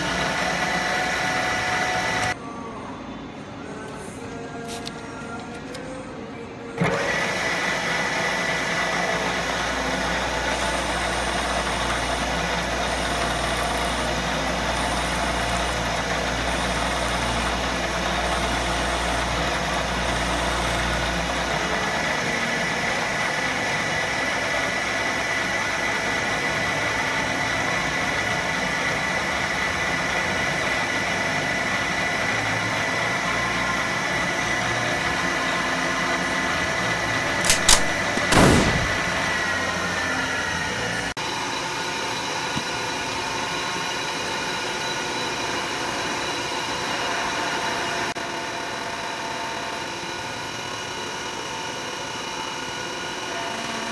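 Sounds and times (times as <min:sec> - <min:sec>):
milling machine whine: 0:00.0 - 0:02.8, 0:05.3 - 0:53.9.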